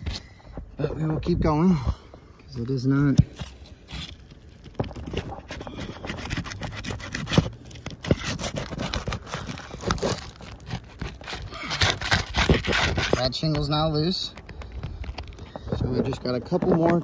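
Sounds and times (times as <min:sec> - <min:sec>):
shingle creasing and cracking: 0:02.6 - 0:17.0.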